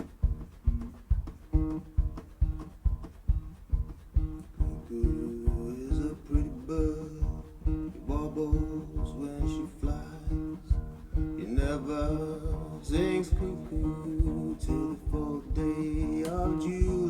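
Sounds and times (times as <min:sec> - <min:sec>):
guitar picked melody: 0:00.0 - 0:17.0
thumping beat: 0:00.0 - 0:17.0.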